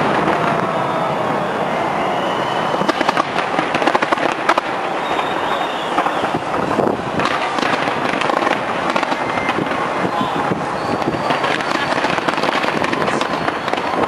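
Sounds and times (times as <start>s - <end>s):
fireworks crackling: 0.0s - 14.0s
loud background din: 0.0s - 14.0s.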